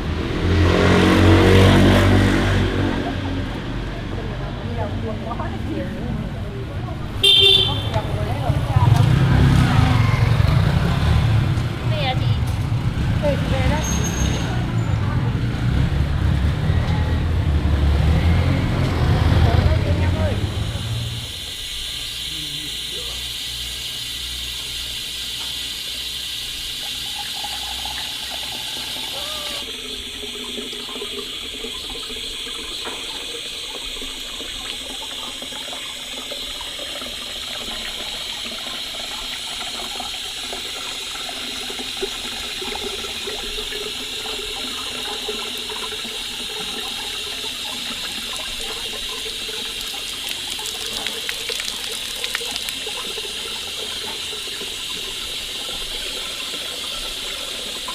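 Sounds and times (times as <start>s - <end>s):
water running into basin: 0.0s - 57.9s.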